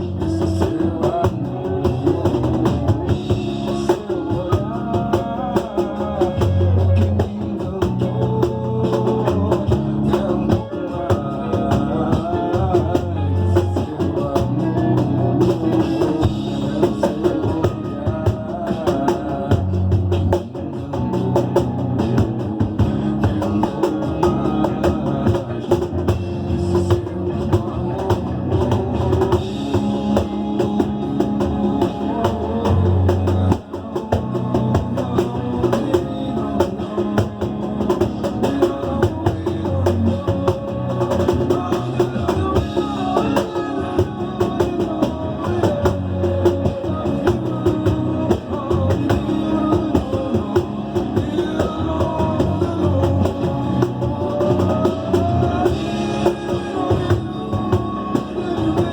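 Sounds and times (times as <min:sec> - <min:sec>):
samba percussion drumming: 0:00.0 - 0:58.9.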